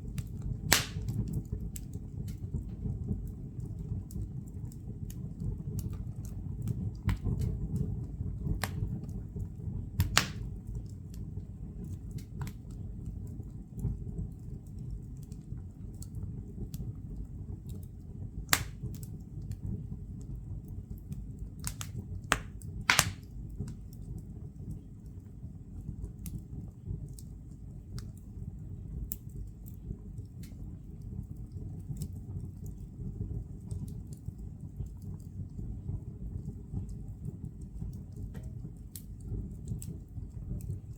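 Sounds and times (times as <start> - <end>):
fire rumbling in fireplace: 0.0 - 40.9
firewood crackling and popping: 0.0 - 40.9.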